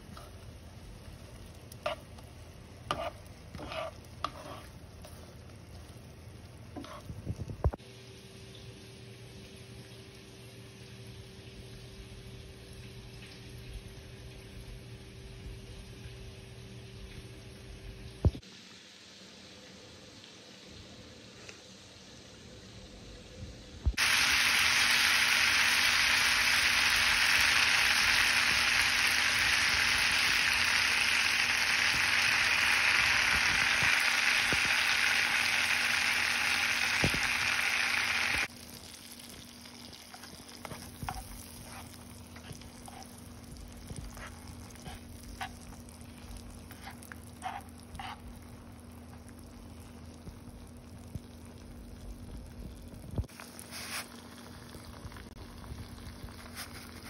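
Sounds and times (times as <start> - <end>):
butter sizzling in a pot: 0.0 - 13.0, 23.9 - 57.0.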